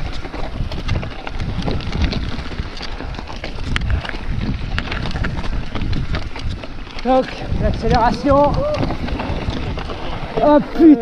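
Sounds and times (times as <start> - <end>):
bike rattling: 0.0 - 11.0
tyres rolling over loose stones: 0.0 - 11.0
wind buffeting microphone: 0.0 - 11.0.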